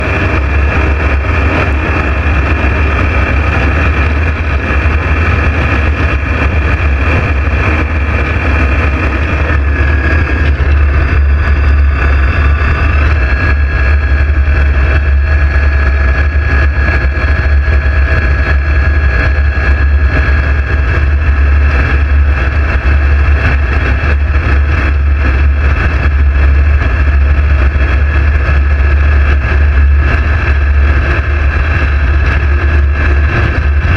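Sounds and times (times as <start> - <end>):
light aircraft engine drone: 0.0 - 33.9.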